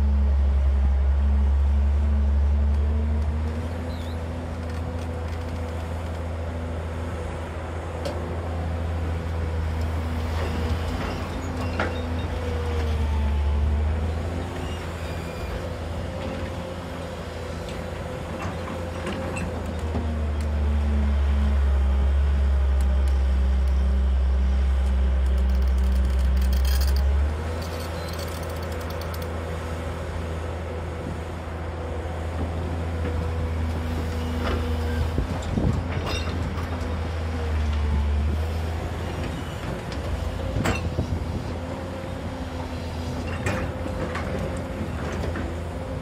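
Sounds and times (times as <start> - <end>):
excavator diesel engine under load: 0.0 - 46.0.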